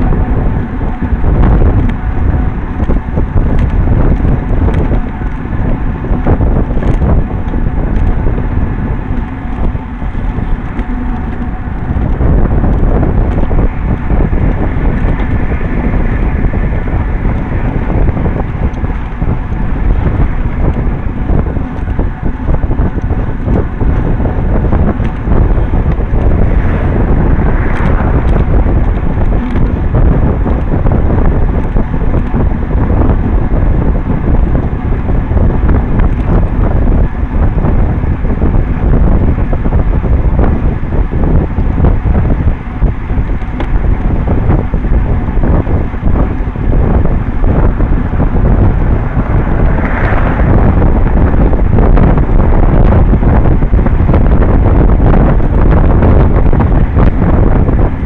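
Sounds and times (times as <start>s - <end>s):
wind buffeting on microphone: 0.0s - 58.0s.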